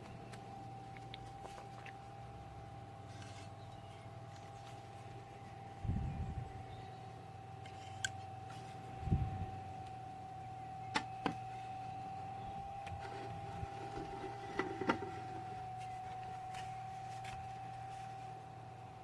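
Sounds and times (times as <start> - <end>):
small fan whining and humming: 0.0 - 19.0.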